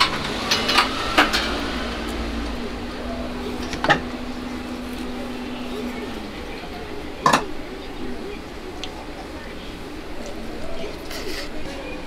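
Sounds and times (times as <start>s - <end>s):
restaurant background hum: 0.0s - 12.0s.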